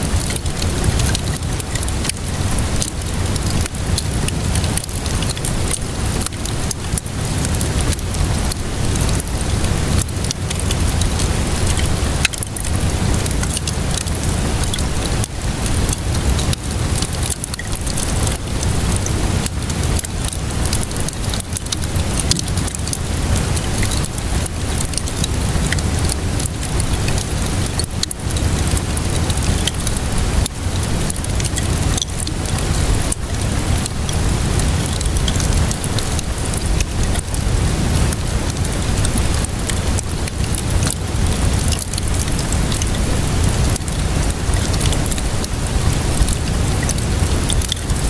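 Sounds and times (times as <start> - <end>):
constant low rumble: 0.0 - 48.0
crackling wood fire: 0.0 - 48.0
steady rainfall: 0.0 - 48.0.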